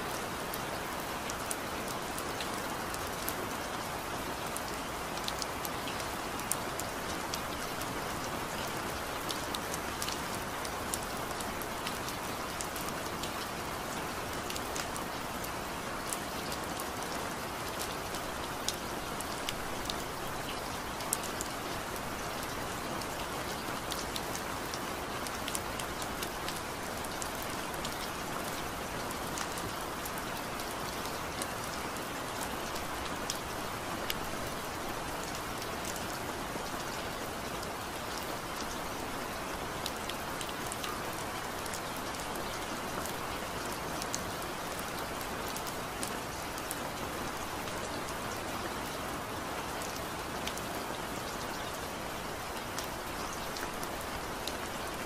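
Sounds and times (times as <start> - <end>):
steady rain falling: 0.0 - 55.0
raindrops ticking on a surface: 0.1 - 55.0.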